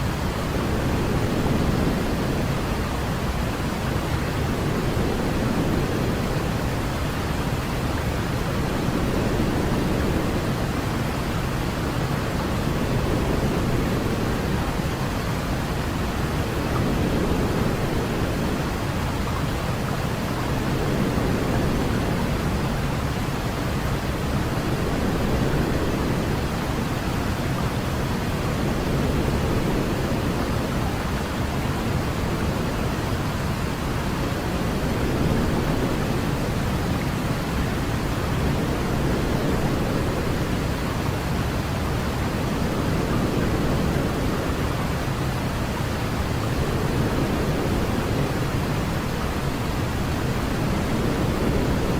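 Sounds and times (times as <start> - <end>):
steady white noise: 0.0 - 51.9.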